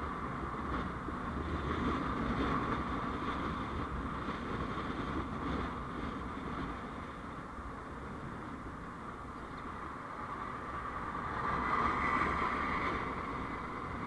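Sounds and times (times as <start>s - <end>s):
vehicle road noise: 0.0s - 14.0s.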